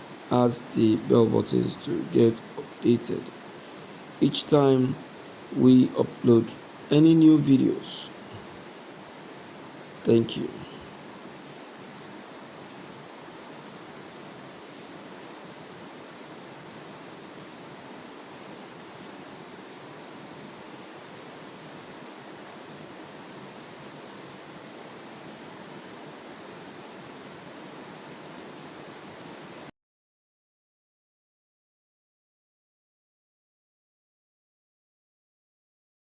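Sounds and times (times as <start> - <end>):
steady background hiss: 0.0 - 29.7.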